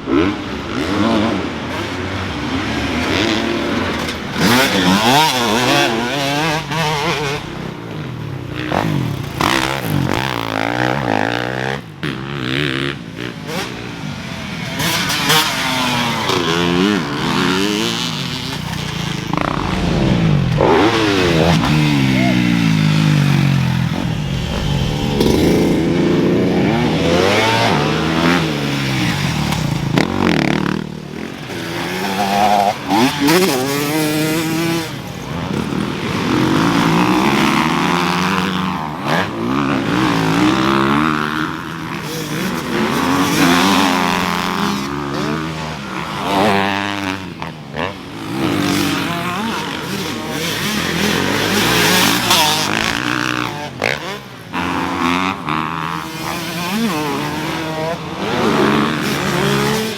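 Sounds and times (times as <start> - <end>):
dirt-bike engines revving: 0.0 - 59.9.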